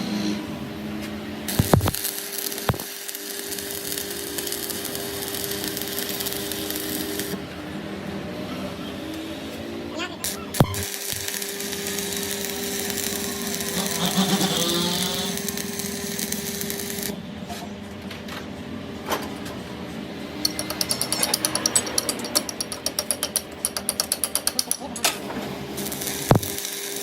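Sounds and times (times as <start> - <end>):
workshop machinery humming: 0.0 - 27.0.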